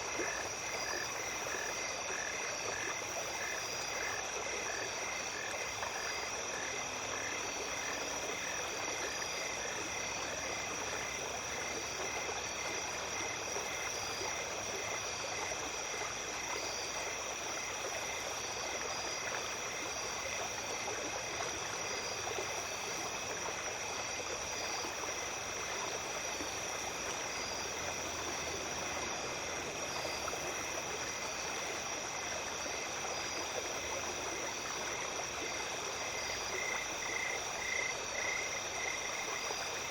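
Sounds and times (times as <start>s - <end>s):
creek water flowing: 0.0s - 39.9s
insects chirping: 0.0s - 39.9s
insects trilling: 0.0s - 39.9s.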